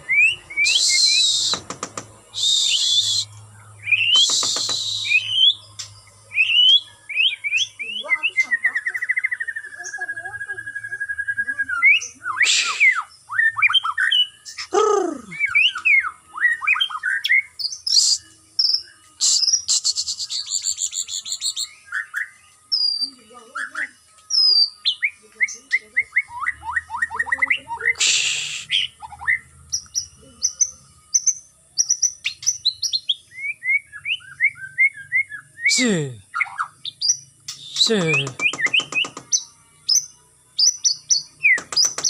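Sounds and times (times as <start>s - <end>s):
harsh bird calls: 0.0s - 22.2s, 26.2s - 30.8s, 34.1s - 40.0s, 40.6s - 42.0s
bird singing whistles and trills: 0.0s - 42.0s.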